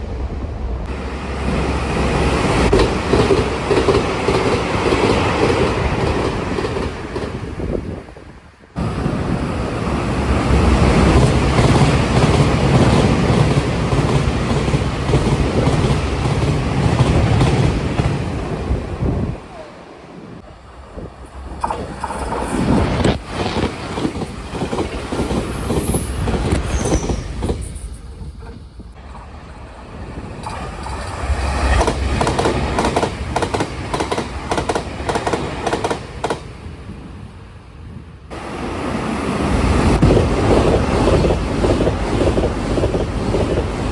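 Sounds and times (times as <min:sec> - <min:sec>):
rumble of train wheels: 0:00.0 - 0:43.9
rush of wind: 0:00.0 - 0:43.9.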